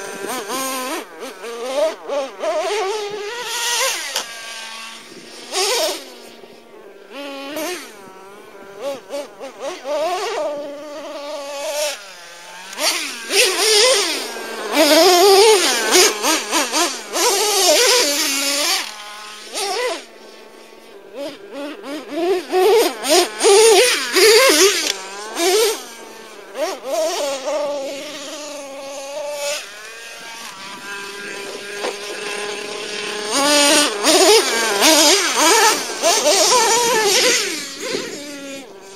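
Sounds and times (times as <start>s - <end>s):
rc truck engine revving: 0.0s - 38.9s.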